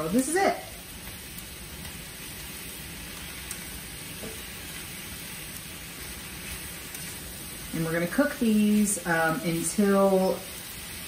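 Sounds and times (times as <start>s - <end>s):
mushrooms sizzling in butter: 0.0s - 11.0s
spatula stirring in skillet: 0.2s - 11.0s.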